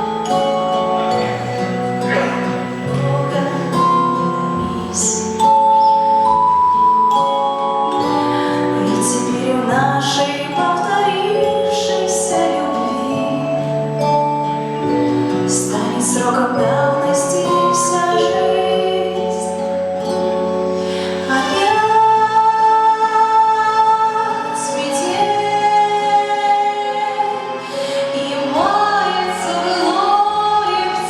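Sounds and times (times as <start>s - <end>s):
instrumental backing music: 0.0s - 31.0s
woman singing: 0.3s - 5.6s, 8.0s - 19.8s, 20.8s - 31.0s.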